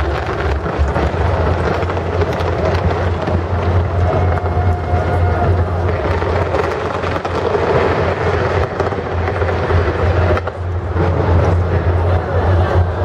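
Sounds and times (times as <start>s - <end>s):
fireworks crackling: 0.0s - 13.0s
steady low rumble: 0.0s - 13.0s.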